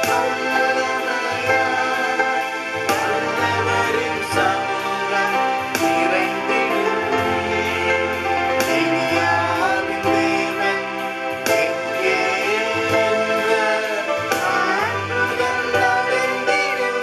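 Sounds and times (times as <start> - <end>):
keyboard worship song: 0.0 - 17.0
man singing: 0.0 - 17.0.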